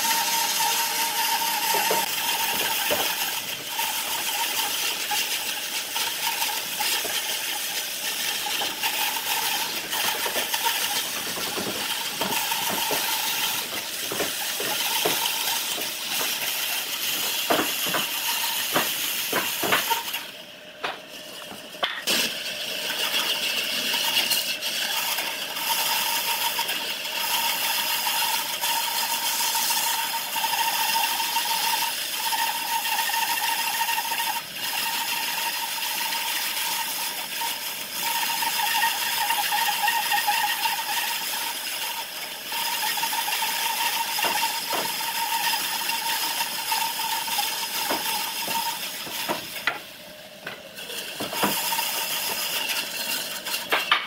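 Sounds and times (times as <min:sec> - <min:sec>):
bandsaw cutting wood: 0:00.0 - 0:54.0.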